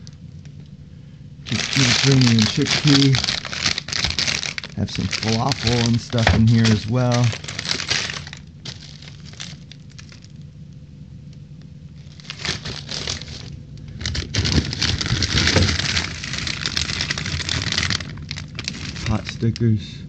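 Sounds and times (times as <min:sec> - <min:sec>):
plastic packaging crinkling: 0:01.4 - 0:10.5, 0:11.9 - 0:19.8.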